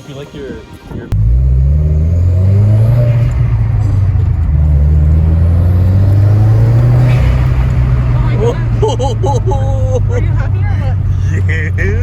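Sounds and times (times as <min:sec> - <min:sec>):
car engine running at low revs: 0:01.1 - 0:12.0.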